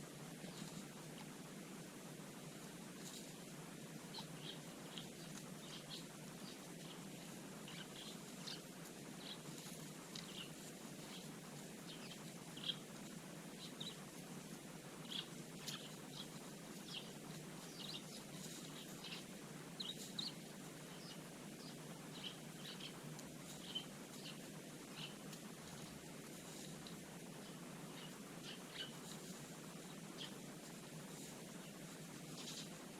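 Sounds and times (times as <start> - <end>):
low background noise: 0.0 - 32.9
sparrows chirping: 3.5 - 32.9.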